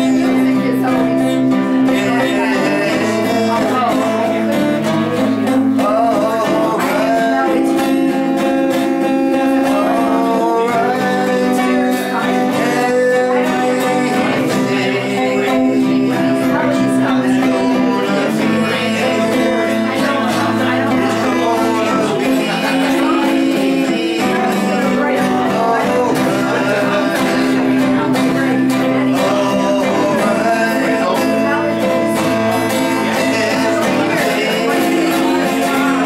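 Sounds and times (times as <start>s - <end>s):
acoustic guitar strummed: 0.0s - 36.0s
held bass keyboard notes: 0.0s - 36.0s.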